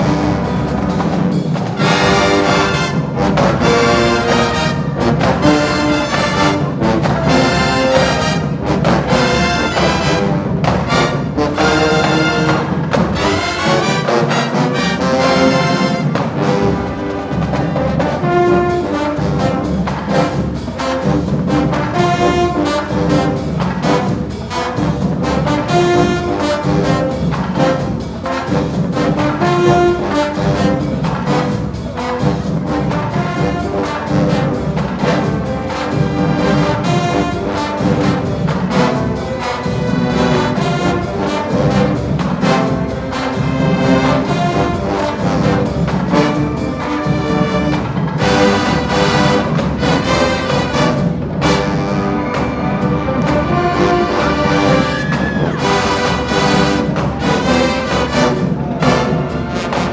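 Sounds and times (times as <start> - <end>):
brass section playing: 0.0 - 59.9
drums steady beat: 0.0 - 59.9.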